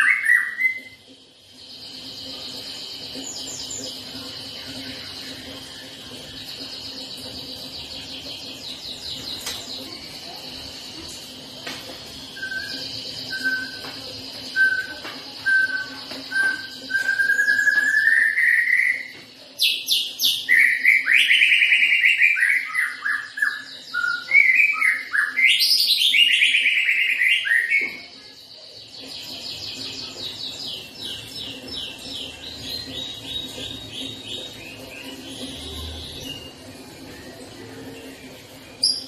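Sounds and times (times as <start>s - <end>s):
bird song whistles and trills: 0.0s - 10.5s, 12.2s - 37.4s, 38.0s - 39.0s.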